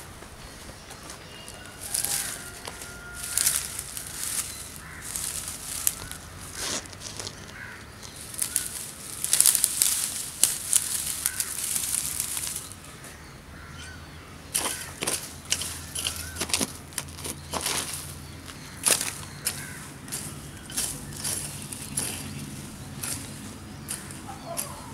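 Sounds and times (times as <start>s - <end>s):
twigs and straw rustling: 0.0s - 24.9s.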